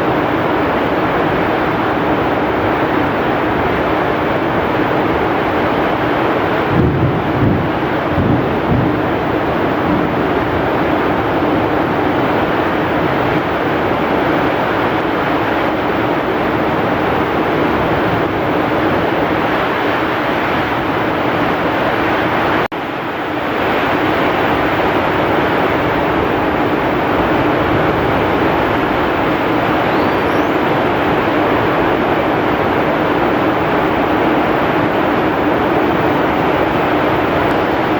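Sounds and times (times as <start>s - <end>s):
heavy rain with wind: 0.0s - 37.9s.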